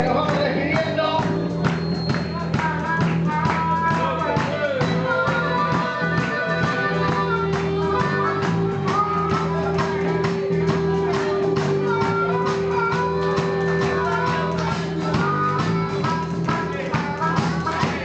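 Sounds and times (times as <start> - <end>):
blues band playing boogie: 0.0 - 18.0.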